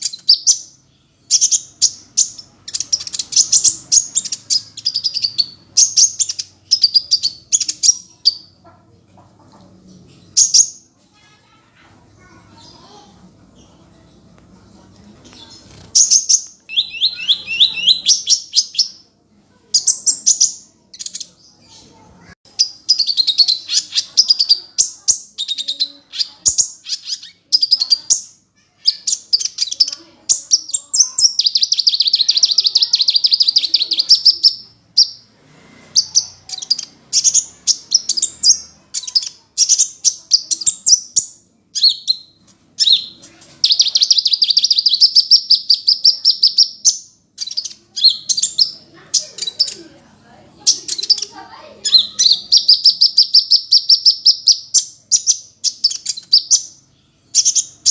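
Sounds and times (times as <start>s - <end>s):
bird singing high chattering trills: 0.0s - 8.8s, 9.9s - 11.6s, 15.4s - 35.3s, 36.0s - 57.9s.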